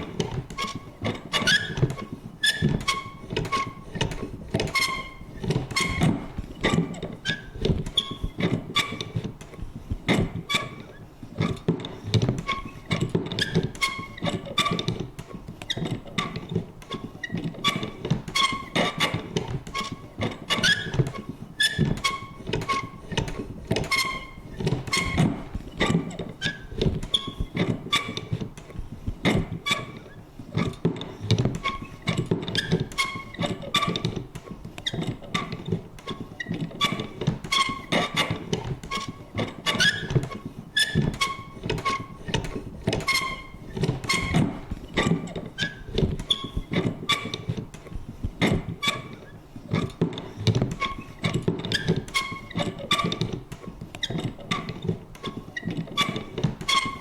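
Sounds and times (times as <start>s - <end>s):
squeaky creaks: 0.0s - 57.0s.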